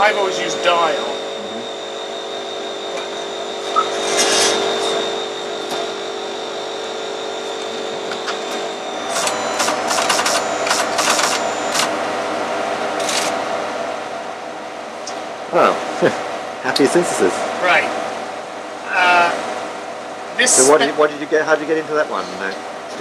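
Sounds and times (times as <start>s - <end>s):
computer machine hum: 0.0s - 23.0s
high whine: 0.0s - 23.0s.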